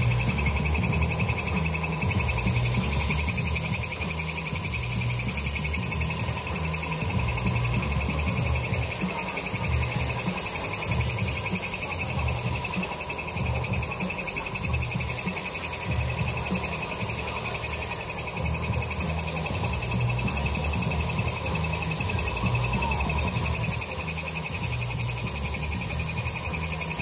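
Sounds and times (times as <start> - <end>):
milling machine cutting: 0.0 - 27.0.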